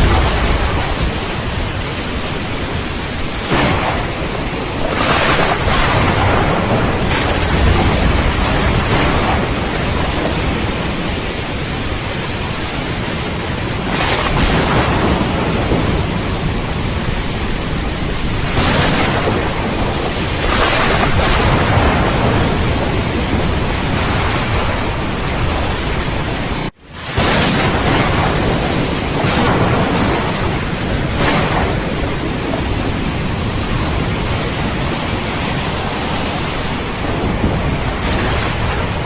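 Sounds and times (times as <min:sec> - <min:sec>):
heavy rain: 0:00.0 - 0:39.0
rolling thunder: 0:00.0 - 0:39.0.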